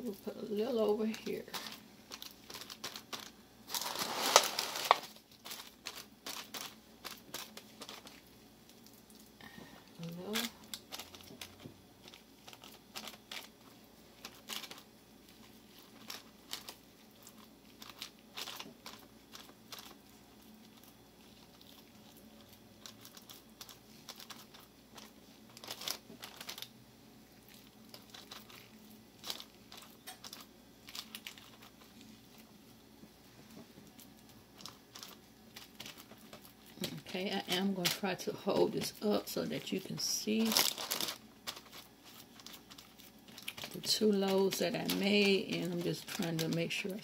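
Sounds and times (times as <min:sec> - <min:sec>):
wax paper crinkling: 0:00.0 - 0:47.0.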